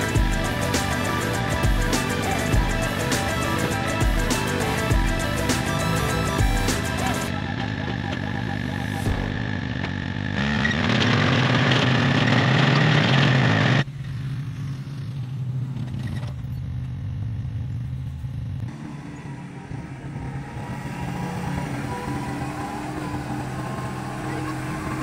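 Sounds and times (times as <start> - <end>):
small engines running: 0.0 - 25.0.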